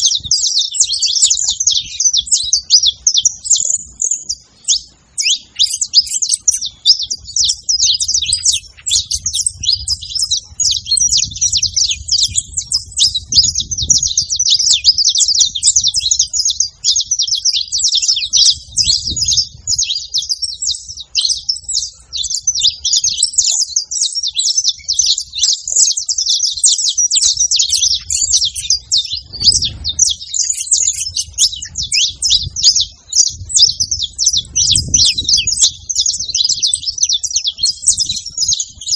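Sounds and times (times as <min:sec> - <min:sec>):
finch singing rapid chirps: 0:00.0 - 0:38.9.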